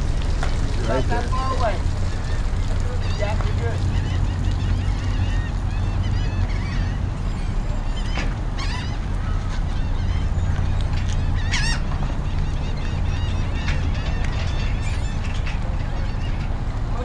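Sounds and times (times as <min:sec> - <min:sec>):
flock of birds squawking: 0:00.0 - 0:17.0
low engine hum: 0:00.0 - 0:17.0.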